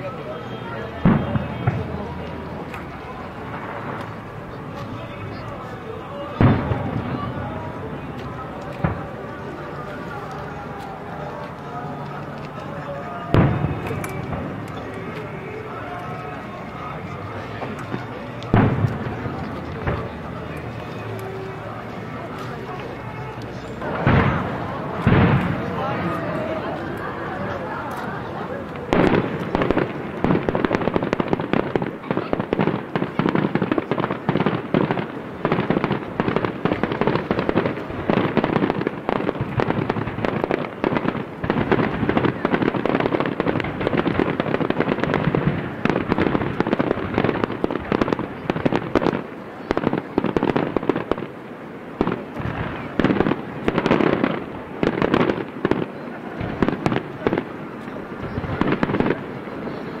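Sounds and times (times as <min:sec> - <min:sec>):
fireworks booming and cracking: 0:00.0 - 1:00.0.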